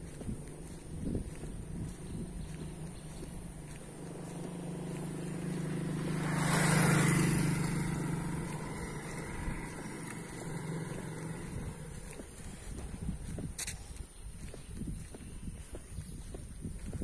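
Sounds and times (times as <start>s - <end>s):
small motorcycle passing: 0.0s - 17.0s.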